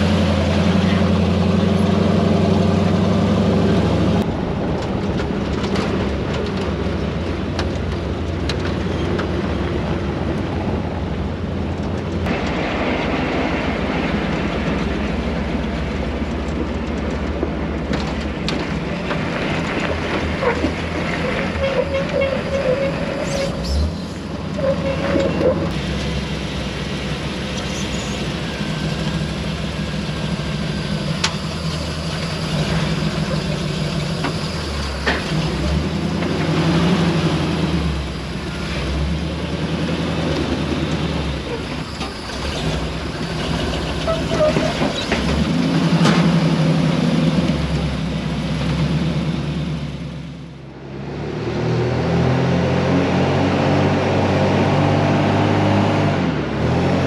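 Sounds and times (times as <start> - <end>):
jeep engine running: 0.0 - 57.0.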